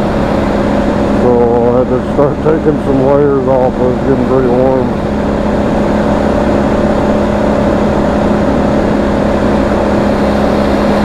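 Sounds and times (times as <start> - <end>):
motorcycle engine droning: 0.0 - 11.0
wind and road rush: 0.0 - 11.0.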